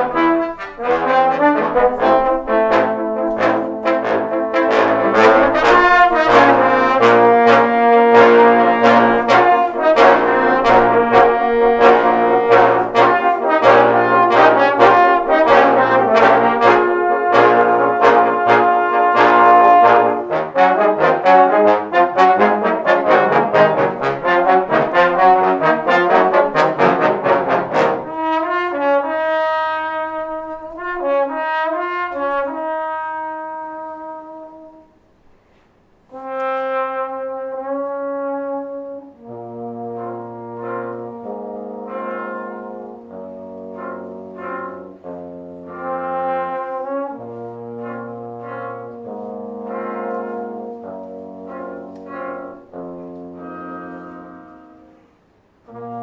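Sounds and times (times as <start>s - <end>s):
trombone ensemble playing: 0.0s - 35.0s, 36.1s - 56.0s.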